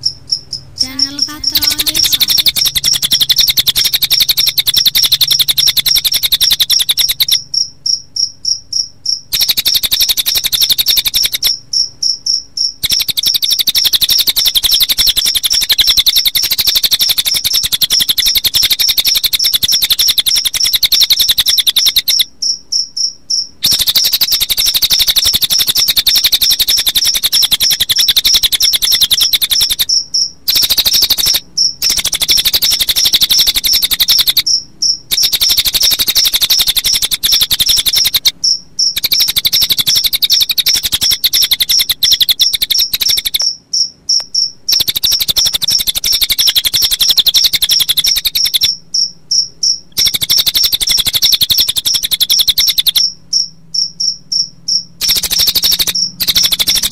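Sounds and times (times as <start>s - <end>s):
bird song: 0.0s - 56.9s
crickets chirping: 0.0s - 56.9s.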